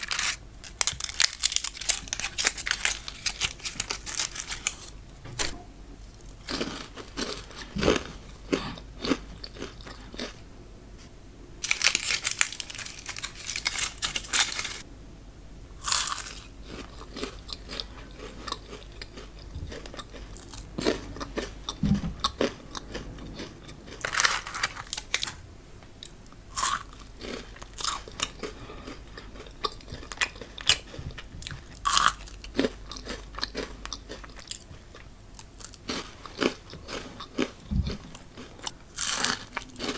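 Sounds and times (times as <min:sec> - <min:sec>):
chocolates crunching while chewed: 0:00.0 - 0:05.0, 0:06.1 - 0:10.4, 0:11.6 - 0:14.9, 0:15.8 - 0:39.9.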